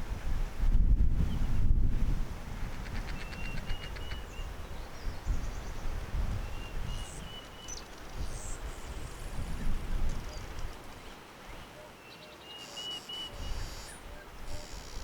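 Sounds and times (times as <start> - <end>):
wind rumble on microphone: 0.0 - 11.7, 13.3 - 15.0.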